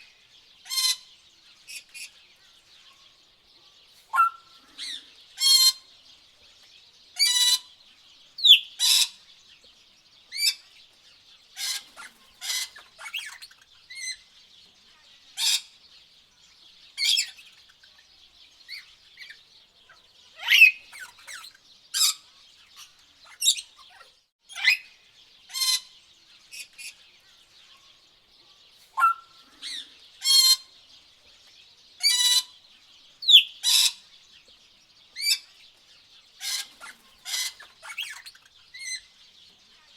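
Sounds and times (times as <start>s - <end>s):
birds calling harshly: 0.0s - 39.9s.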